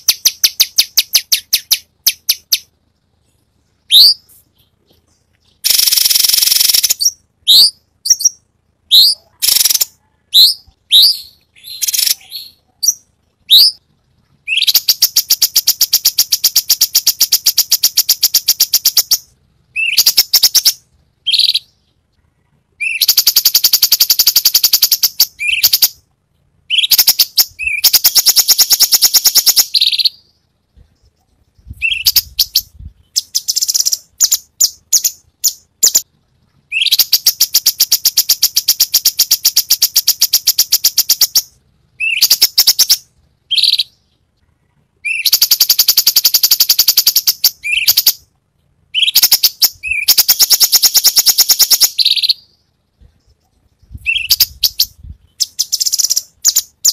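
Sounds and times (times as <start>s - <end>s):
songbird whistling and trilling: 0.0s - 2.7s, 3.9s - 4.7s, 5.4s - 13.8s, 14.4s - 21.8s, 22.8s - 26.0s, 26.7s - 30.4s, 31.6s - 36.0s, 36.7s - 44.0s, 45.0s - 48.2s, 48.9s - 52.6s, 53.8s - 56.9s.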